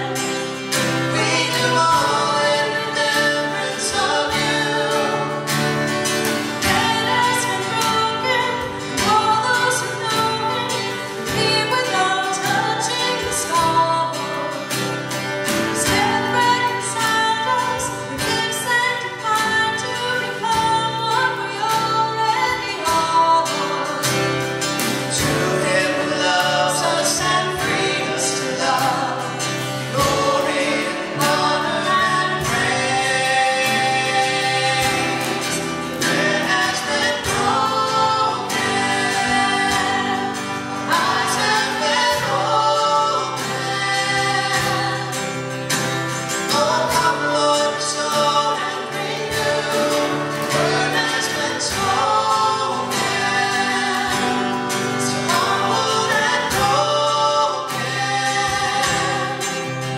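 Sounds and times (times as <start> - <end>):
strummed acoustic guitar: 0.0 - 59.9
woman and man singing: 0.0 - 59.9.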